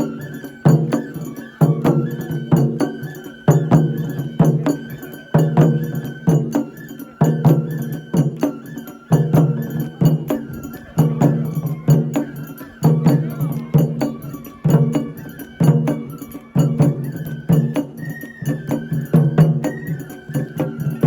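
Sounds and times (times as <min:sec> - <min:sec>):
deep drum beats: 0:00.0 - 0:21.0
high wavering melody: 0:00.0 - 0:21.0
sharp percussion strikes: 0:00.0 - 0:21.0.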